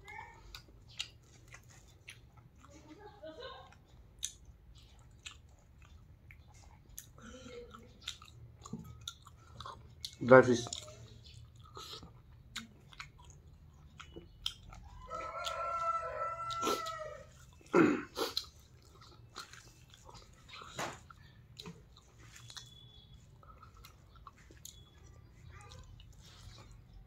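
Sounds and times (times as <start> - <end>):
chewing and lip-smacking: 0.0 - 27.0.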